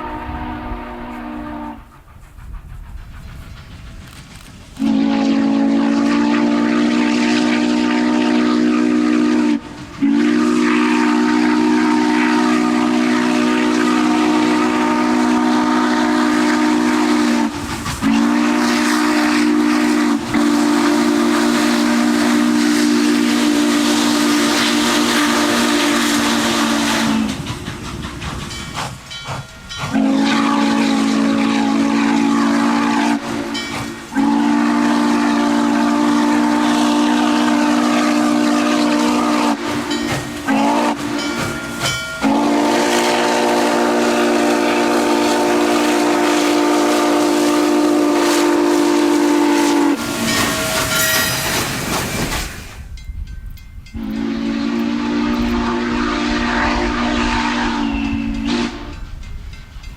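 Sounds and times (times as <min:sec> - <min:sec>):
steam locomotive whistle blasts: 0:00.0 - 0:02.0, 0:04.4 - 0:27.5, 0:28.6 - 0:51.8, 0:53.9 - 0:59.2.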